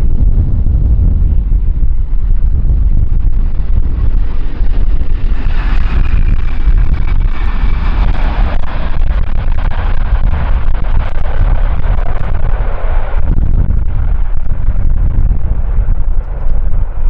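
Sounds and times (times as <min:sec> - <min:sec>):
wind buffeting microphone: 0:00.0 - 0:17.0
jet engines whining: 0:01.8 - 0:17.0.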